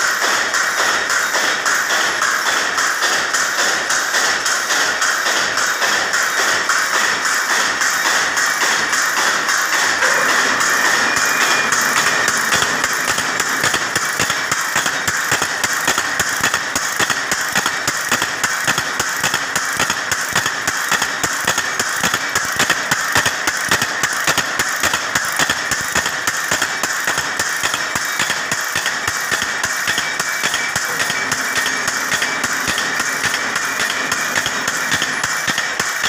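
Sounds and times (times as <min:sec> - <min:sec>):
rapid even clicking: 0:00.0 - 0:36.0
wire making machine clattering: 0:00.0 - 0:36.0.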